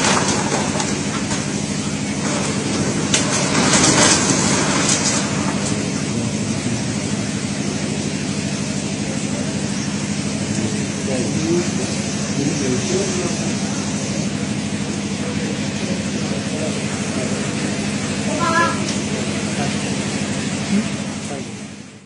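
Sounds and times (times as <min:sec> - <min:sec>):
floodwater torrent roaring: 0:00.0 - 0:21.8.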